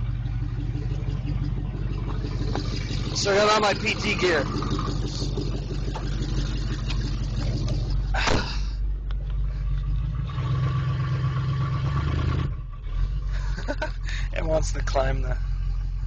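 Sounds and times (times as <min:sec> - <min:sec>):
car engine running loud: 0:00.0 - 0:16.0.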